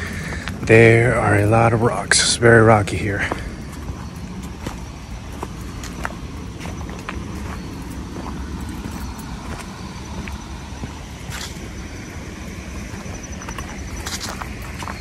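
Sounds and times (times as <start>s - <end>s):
footsteps on rocky trail: 0.0s - 15.0s
low steady rumble: 0.0s - 15.0s.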